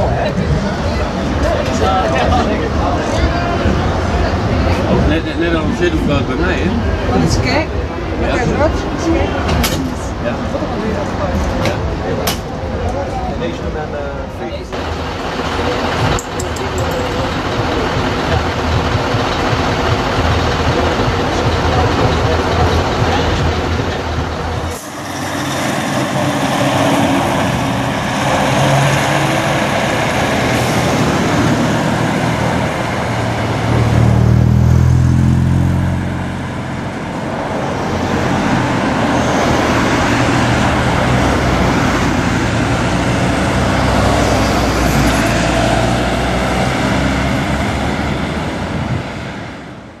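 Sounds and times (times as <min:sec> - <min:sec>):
diesel truck engine running: 0:00.0 - 0:50.0
traffic noise: 0:00.0 - 0:50.0.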